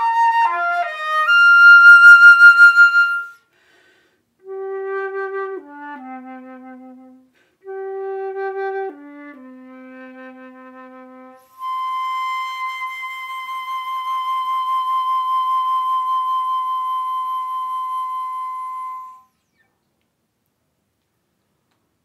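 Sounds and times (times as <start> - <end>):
flute playing with vibrato: 0.0 - 3.5, 4.4 - 19.7.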